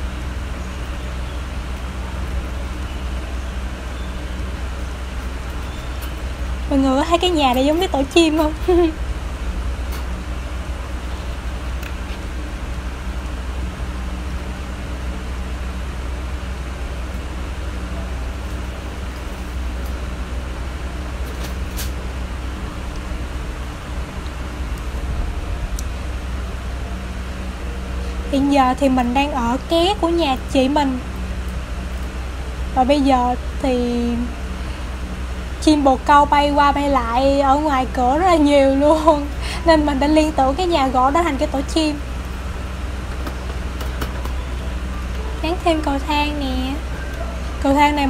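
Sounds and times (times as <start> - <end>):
steady low rumble: 0.0 - 48.0.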